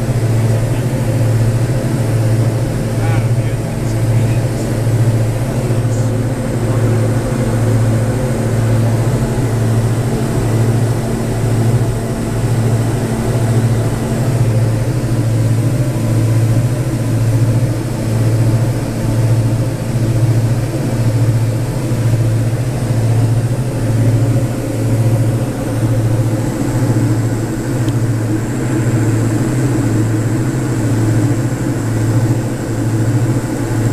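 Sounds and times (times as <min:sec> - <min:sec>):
aircraft propellers droning in cabin: 0:00.0 - 0:33.9.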